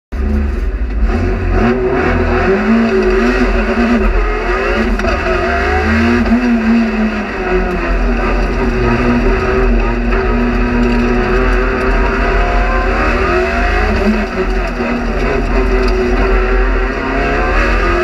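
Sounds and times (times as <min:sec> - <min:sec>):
car engine accelerating: 0:00.1 - 0:18.0.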